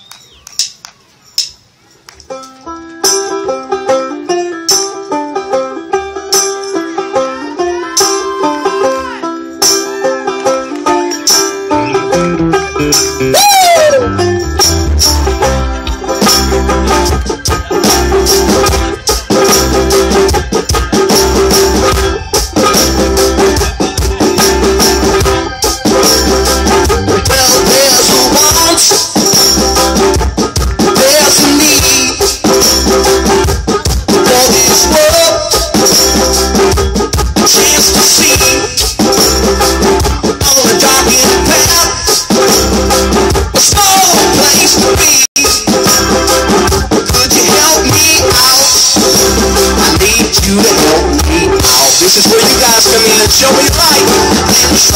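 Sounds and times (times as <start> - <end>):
bass guitar: 2.1 - 54.9
electric guitar: 2.2 - 54.9
drum kit: 9.6 - 54.9.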